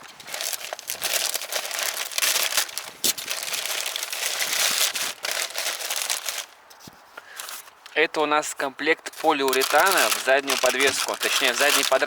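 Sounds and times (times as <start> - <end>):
packaging crinkling and rustling: 0.0 - 6.6, 7.3 - 7.7, 9.1 - 12.0.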